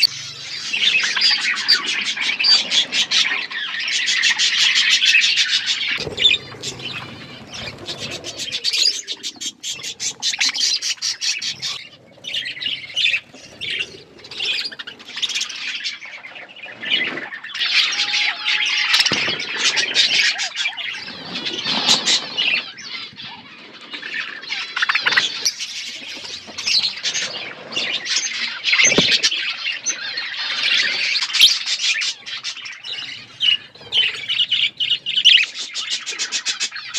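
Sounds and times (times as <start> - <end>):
budgerigars chattering: 0.0 - 17.9, 24.1 - 36.9.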